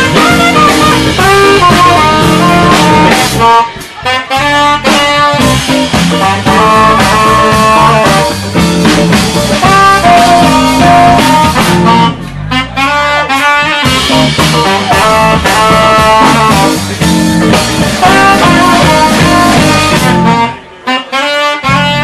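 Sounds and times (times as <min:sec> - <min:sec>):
live band playing: 0:00.0 - 0:22.0
saxophone solo: 0:00.0 - 0:22.0.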